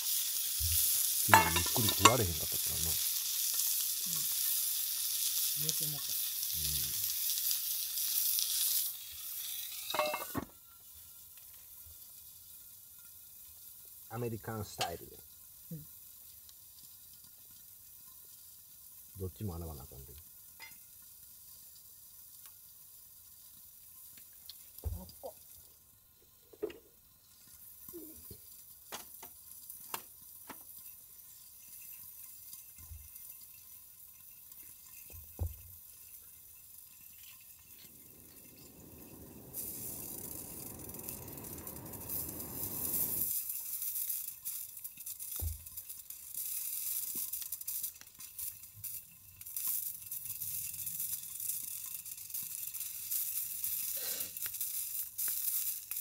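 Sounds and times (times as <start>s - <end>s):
meat sizzling on griddle: 0.0s - 56.0s.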